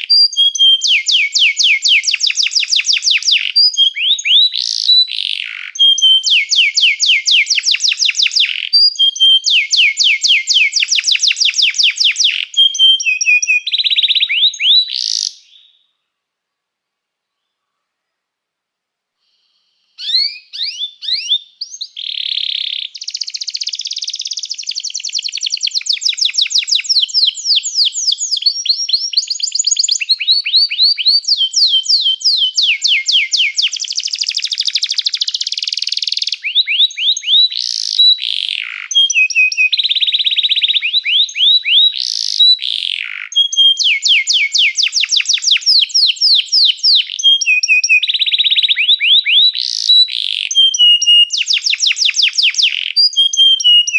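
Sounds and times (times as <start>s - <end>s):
canary singing trills: 0.0s - 15.8s, 19.6s - 53.9s.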